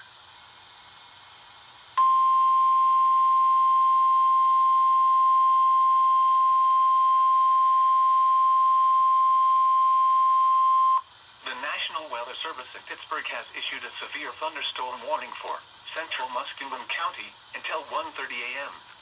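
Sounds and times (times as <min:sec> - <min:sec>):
faint radio hiss: 0:00.0 - 0:19.0.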